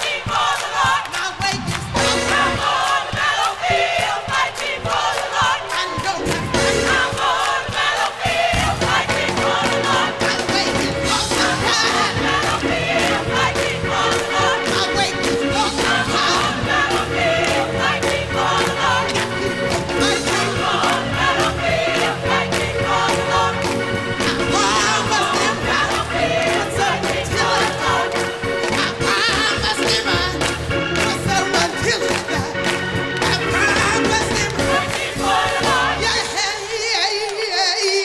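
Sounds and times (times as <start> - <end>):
crowd cheering: 0.0 - 36.0
gospel choir singing: 0.0 - 38.0
live band playing: 1.4 - 4.4, 5.0 - 36.9.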